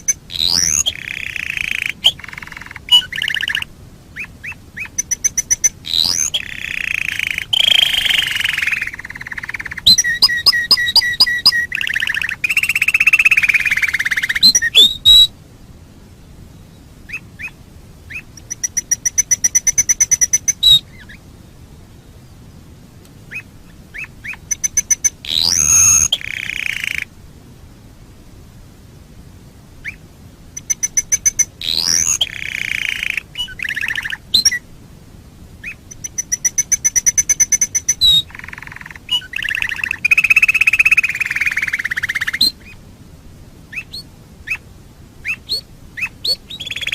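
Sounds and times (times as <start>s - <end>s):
canary singing trills: 0.0s - 15.4s, 16.6s - 21.3s, 23.3s - 27.1s, 30.6s - 34.6s, 35.6s - 42.8s, 43.7s - 46.9s.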